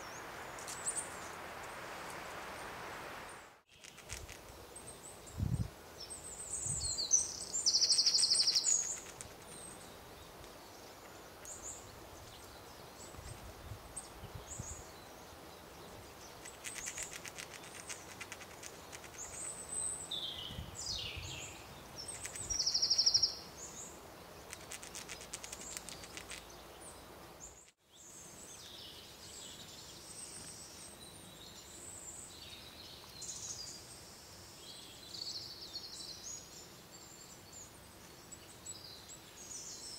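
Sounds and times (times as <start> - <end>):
small birds chirping and trilling: 0.0 - 1.7, 3.7 - 39.9.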